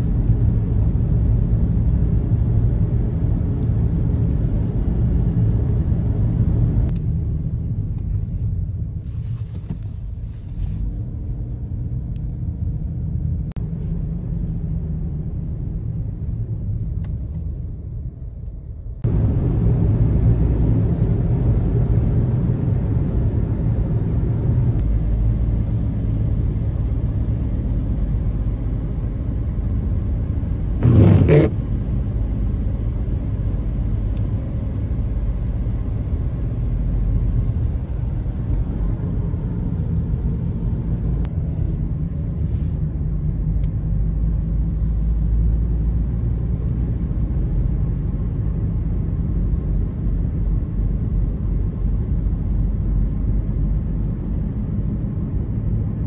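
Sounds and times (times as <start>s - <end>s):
vehicle driving on wet road: 0.0s - 56.0s.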